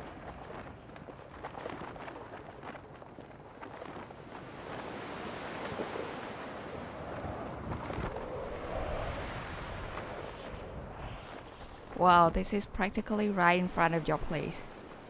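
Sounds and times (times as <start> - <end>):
lake waves washing onto shore: 0.0 - 15.0
wind: 0.0 - 15.0.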